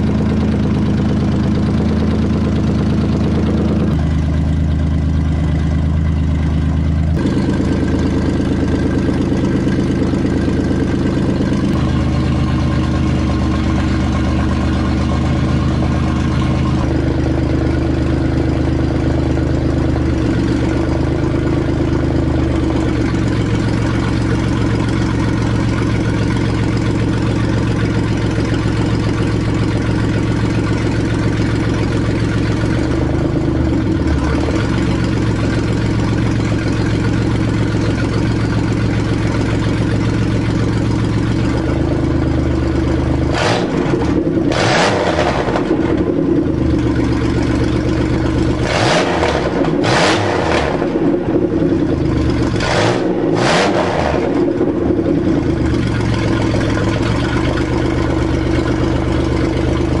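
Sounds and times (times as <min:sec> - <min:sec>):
car engine idling and revving: 0:00.0 - 1:00.0.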